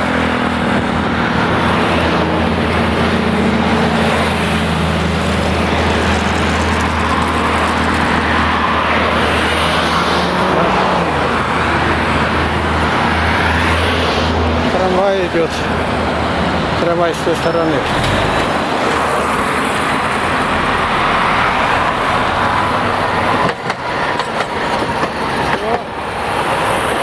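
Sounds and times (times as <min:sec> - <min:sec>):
heavy truck passing: 0:00.0 - 0:27.0
road traffic passing: 0:00.0 - 0:27.0.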